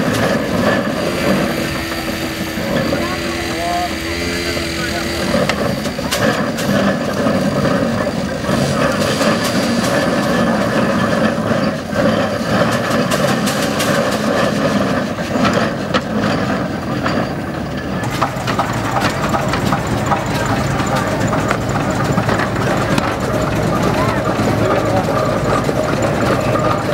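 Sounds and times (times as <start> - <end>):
larger steam engine: 0.0 - 26.9
steam traction engines clattering: 0.0 - 26.9.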